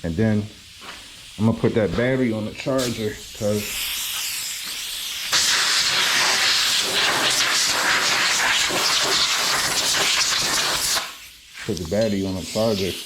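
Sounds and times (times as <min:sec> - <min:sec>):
water spraying hiss: 0:00.7 - 0:13.0.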